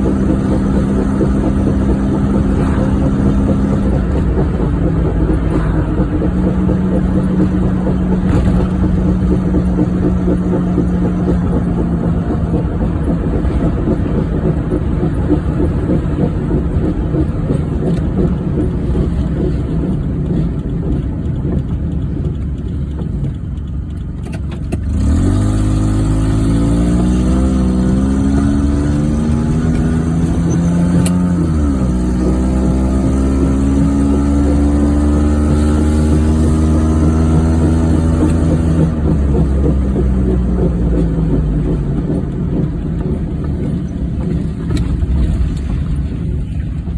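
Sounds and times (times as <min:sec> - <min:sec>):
car engine: 0:00.0 - 0:46.9
road noise: 0:00.0 - 0:46.9.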